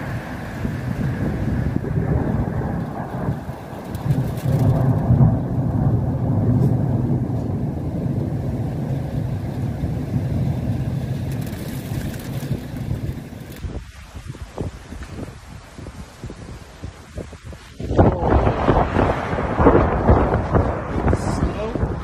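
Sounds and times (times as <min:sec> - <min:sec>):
deep rumbling of snowstorm: 0:00.0 - 0:22.0.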